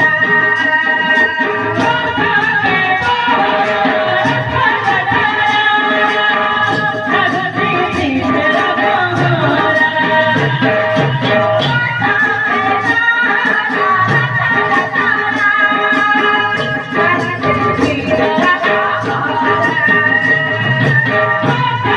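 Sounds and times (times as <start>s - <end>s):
devotional singing: 0.0s - 21.9s
drum and percussion beat: 0.0s - 21.9s.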